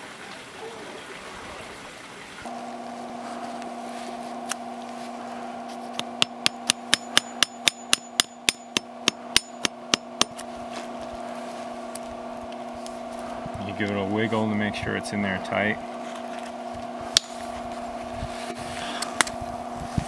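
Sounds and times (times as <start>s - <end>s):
steady hum: 2.5s - 20.0s.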